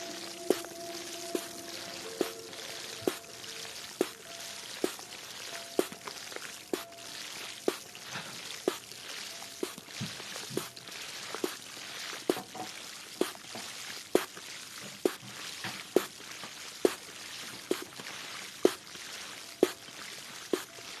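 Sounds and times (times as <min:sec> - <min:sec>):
sharp water drips: 0:00.0 - 0:21.0
water trickling: 0:00.0 - 0:21.0.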